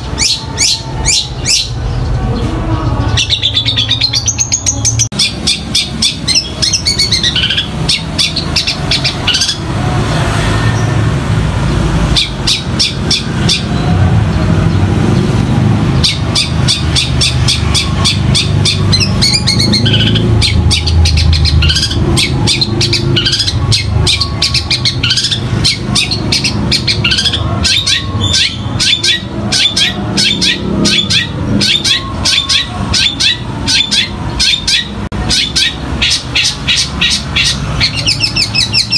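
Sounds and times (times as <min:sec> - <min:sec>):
bird singing chirps and whistles: 0:00.0 - 0:02.1, 0:03.0 - 0:09.6, 0:16.0 - 0:38.9.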